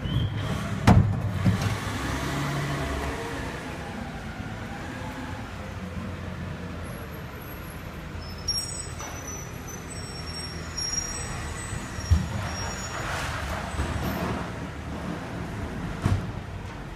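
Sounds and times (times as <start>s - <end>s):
garbage truck engine rumble: 0.0s - 16.9s.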